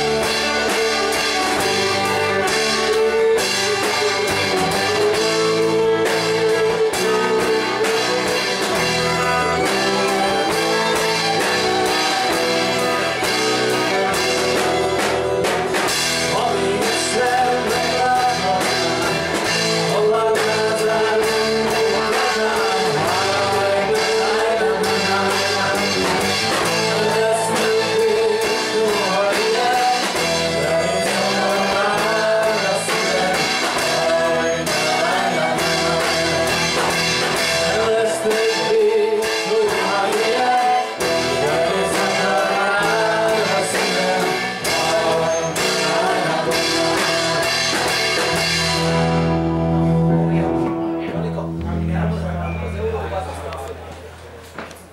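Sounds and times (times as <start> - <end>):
person singing: 0.0 - 51.1
violin: 0.0 - 53.8
live rock band playing: 0.0 - 54.5.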